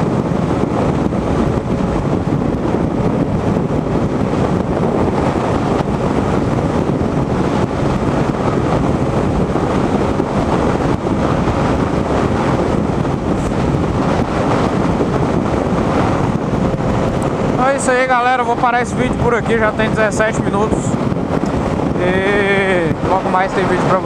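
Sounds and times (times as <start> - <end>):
motorcycle riding at speed: 0.0 - 24.0
wind rush on microphone: 0.0 - 24.0.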